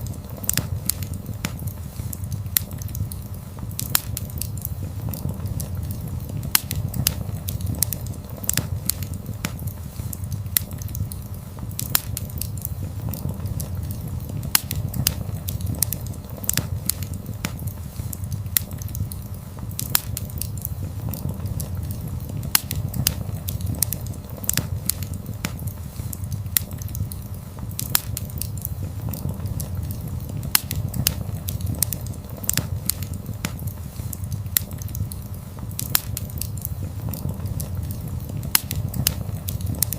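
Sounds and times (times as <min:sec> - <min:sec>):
burning wood crackling and popping: 0:00.0 - 0:39.9
flames rushing: 0:00.0 - 0:39.9.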